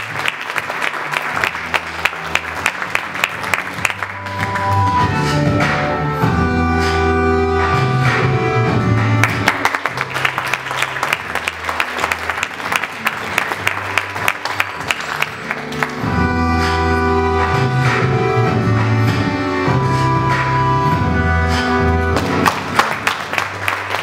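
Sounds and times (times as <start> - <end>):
deep bass: 1.4 - 22.8.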